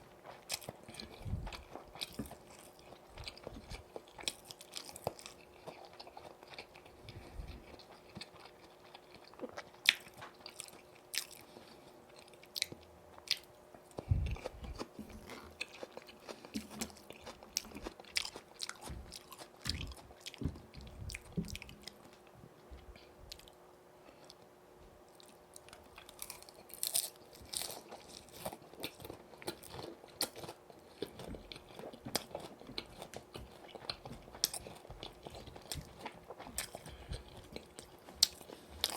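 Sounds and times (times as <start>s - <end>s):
crunching fried chicken: 0.0s - 22.1s, 25.1s - 38.9s
soft chewing: 0.0s - 38.9s.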